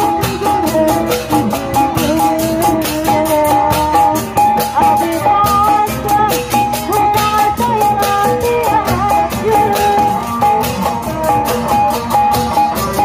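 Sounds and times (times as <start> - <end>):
bent melody line: 0.0 - 13.0
steady drumming: 0.0 - 13.0.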